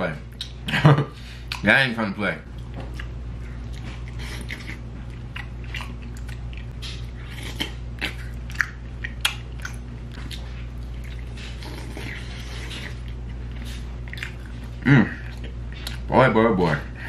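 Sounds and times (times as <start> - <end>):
steady low hum: 0.0 - 17.0
man chewing wetly: 0.3 - 1.7, 2.5 - 16.1.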